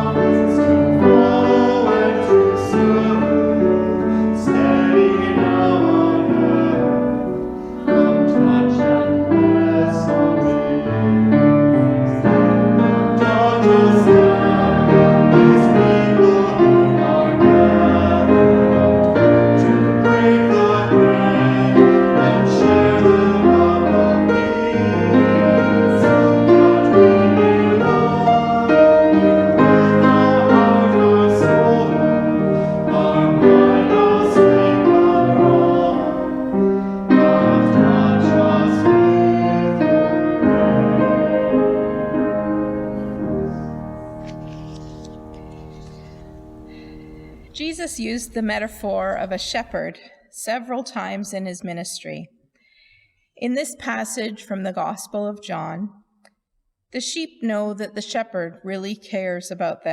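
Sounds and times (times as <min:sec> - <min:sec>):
slow piano piece: 0:00.0 - 0:49.8.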